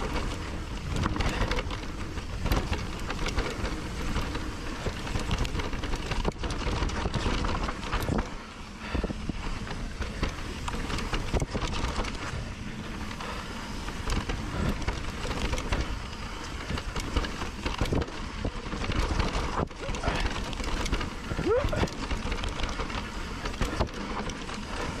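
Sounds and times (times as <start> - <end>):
bike knocks and rattles: 0.0 - 25.0
bike tyres on gravel trail: 0.0 - 25.0
wind rumble on camera: 0.0 - 25.0.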